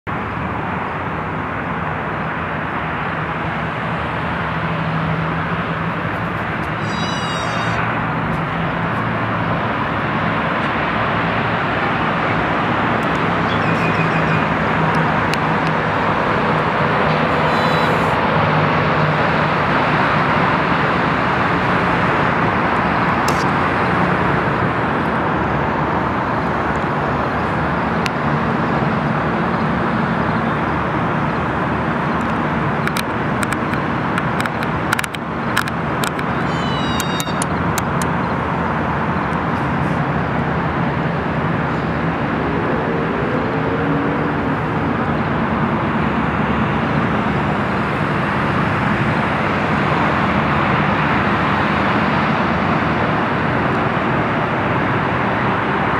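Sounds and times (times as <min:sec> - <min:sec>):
distant road traffic hiss: 0:00.1 - 0:55.9.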